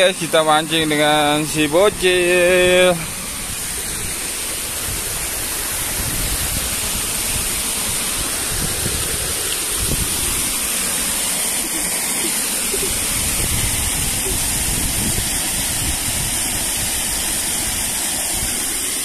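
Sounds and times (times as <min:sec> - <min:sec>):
stream water running over rocks: 0:00.0 - 0:19.0.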